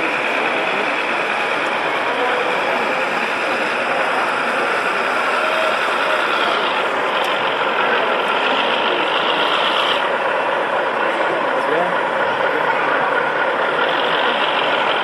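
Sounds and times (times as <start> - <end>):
model truck engines idling: 0.0 - 15.0.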